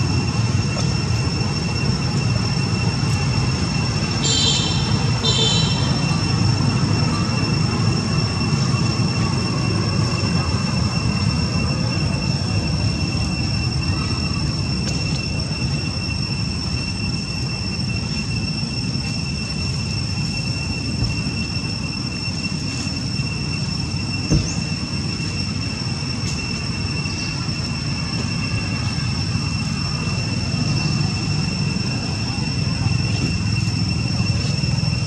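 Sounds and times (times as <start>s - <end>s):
high-pitched whine: 0.0s - 35.0s.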